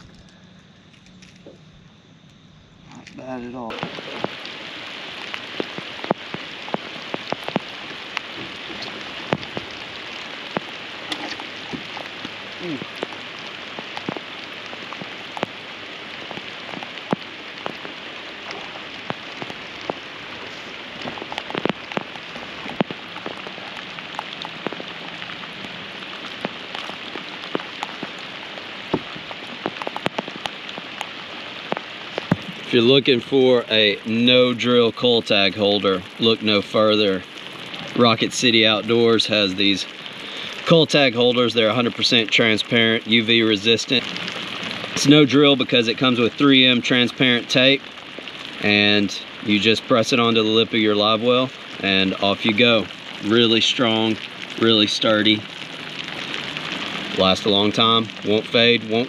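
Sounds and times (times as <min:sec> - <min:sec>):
rain hissing: 0:00.0 - 0:59.0
raindrop taps: 0:03.0 - 0:59.0.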